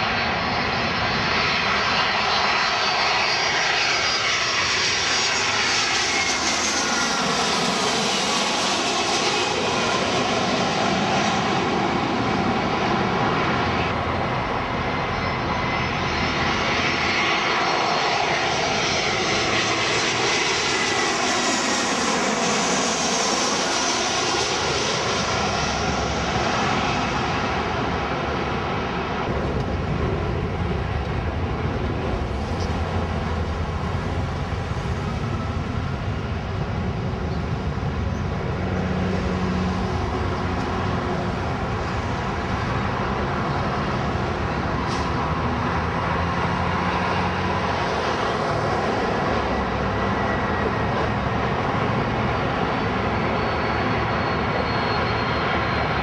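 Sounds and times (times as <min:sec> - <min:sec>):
jet engines rushing: 0:00.0 - 0:56.0.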